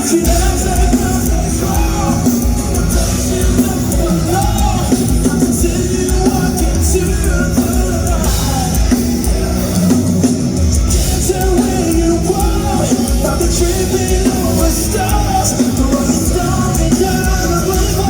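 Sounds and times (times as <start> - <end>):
bass: 0.0 - 18.0
distorted guitars: 0.0 - 18.0
drums: 0.0 - 18.0
person singing: 0.0 - 18.0.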